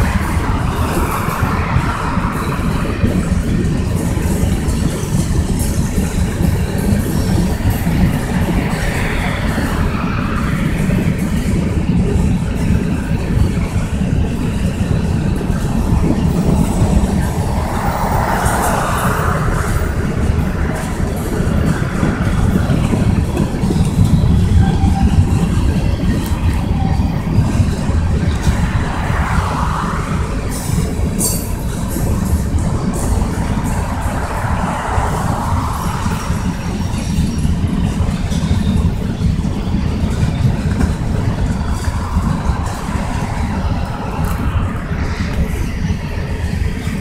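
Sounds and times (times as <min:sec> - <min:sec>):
steel wheels rumbling on rail: 0:00.0 - 0:47.0.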